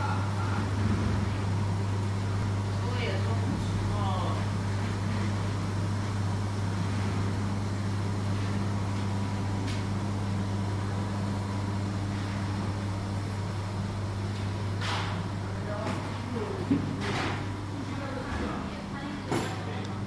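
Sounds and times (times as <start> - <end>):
low hum with higher tone: 0.0 - 20.0.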